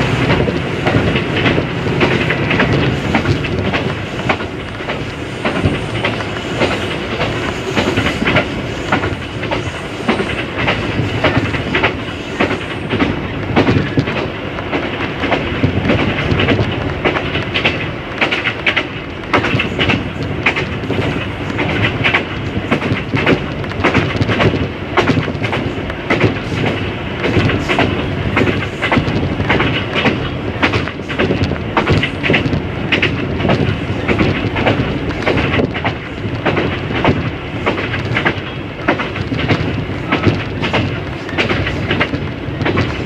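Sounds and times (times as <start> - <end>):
train rumbling on track: 0.0 - 43.0
wheels clicking on rails: 0.0 - 43.0.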